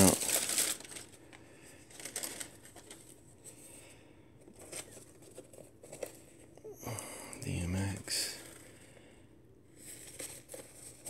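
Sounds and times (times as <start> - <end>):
rustling and handling: 0.0 - 6.6, 7.8 - 11.0.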